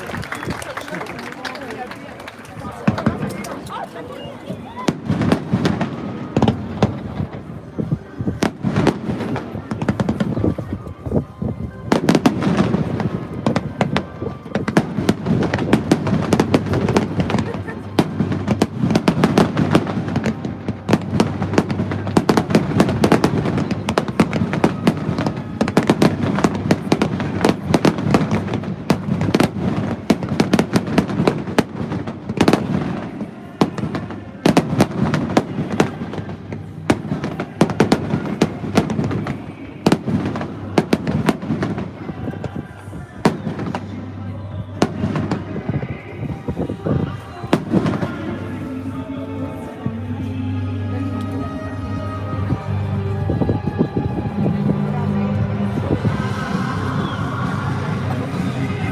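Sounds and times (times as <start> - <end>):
fireworks bangs and crackles: 0.0 - 49.0, 51.2 - 58.9
music: 4.6 - 58.9.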